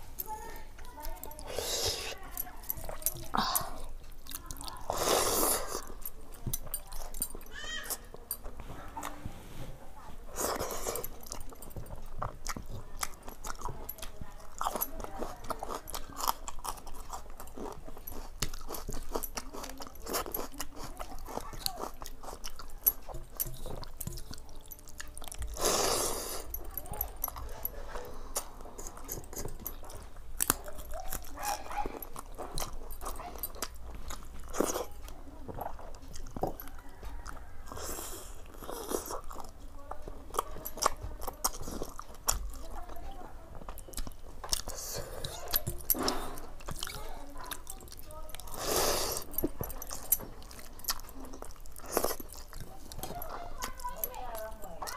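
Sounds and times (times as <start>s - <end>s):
person crunching and chewing: 0.1s - 9.2s, 10.3s - 54.9s.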